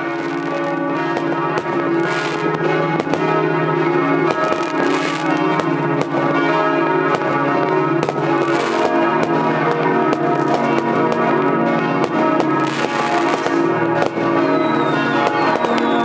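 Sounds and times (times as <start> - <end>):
church bells pealing: 0.0 - 16.0
fireworks banging and crackling: 0.0 - 16.0.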